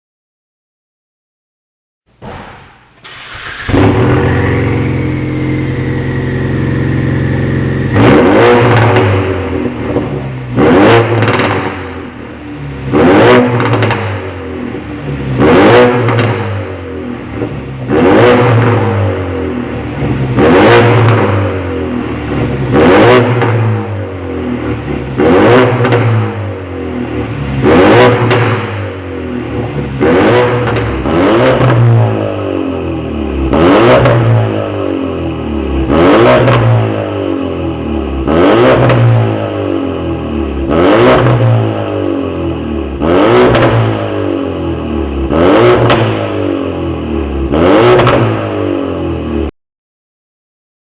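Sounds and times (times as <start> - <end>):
car engine starting and idling: 2.1 - 49.4
engine revs through deep exhaust: 3.3 - 49.5.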